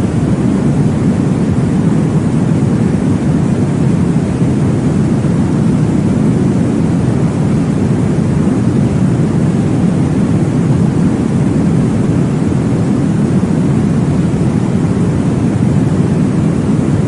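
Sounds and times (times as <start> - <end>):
deep whooshing white noise: 0.0 - 17.0.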